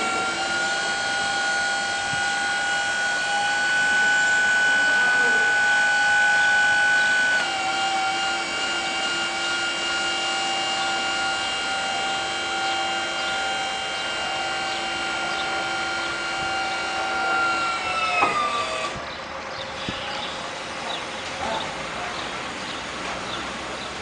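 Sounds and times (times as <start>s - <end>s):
hydraulic pump motor whining: 0.0s - 24.0s.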